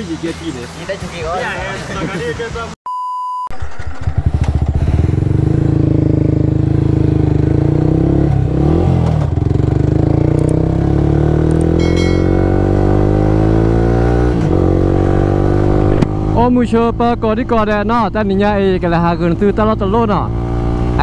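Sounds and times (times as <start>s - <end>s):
vehicle engine accelerating: 3.5s - 21.0s.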